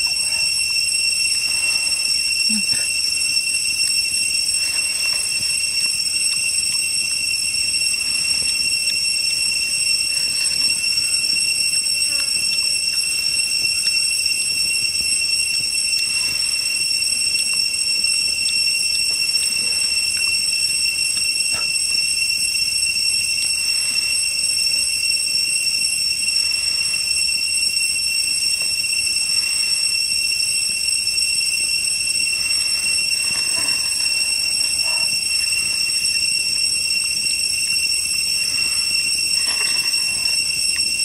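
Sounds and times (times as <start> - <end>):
cicada drone: 0.0 - 41.0.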